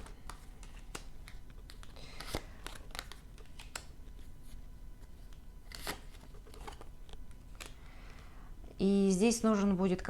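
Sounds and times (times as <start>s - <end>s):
cards clicking and rustling: 0.0s - 8.2s.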